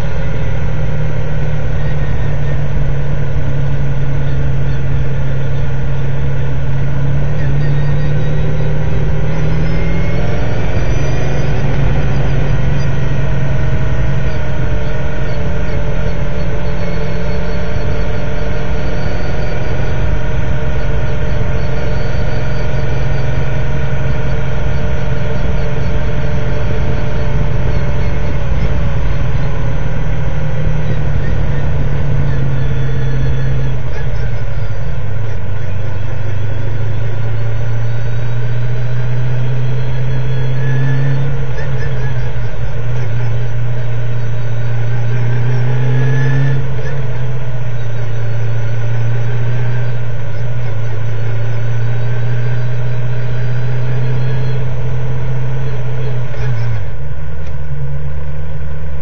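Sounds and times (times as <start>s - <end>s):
race car engine at low revs: 0.0s - 59.0s.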